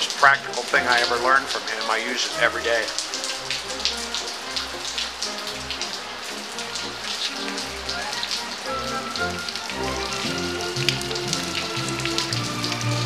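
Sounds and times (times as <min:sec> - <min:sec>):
rain falling on tiled patio: 0:00.0 - 0:13.0.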